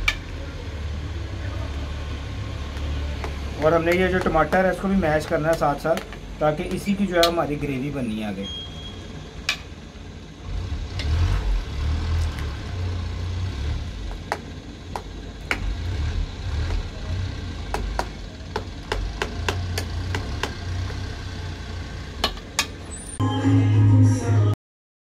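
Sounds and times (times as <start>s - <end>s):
gas burner roaring: 0.0s - 23.1s.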